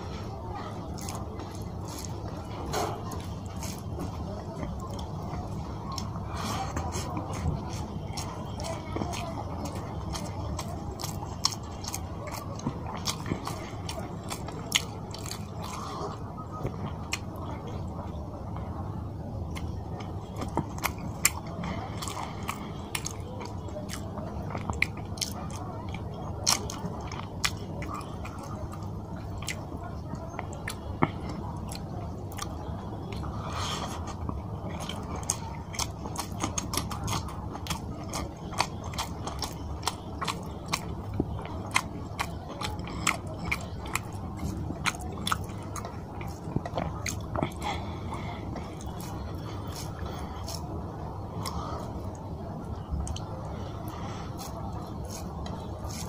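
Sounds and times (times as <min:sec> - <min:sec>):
wet chewing with lip smacks: 0:00.6 - 0:18.7, 0:19.4 - 0:56.0.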